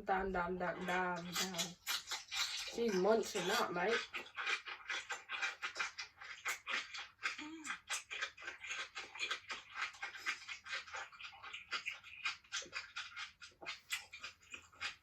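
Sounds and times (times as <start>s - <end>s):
mouth clicks: 0.7s - 15.0s
person chewing and crunching: 0.7s - 15.0s.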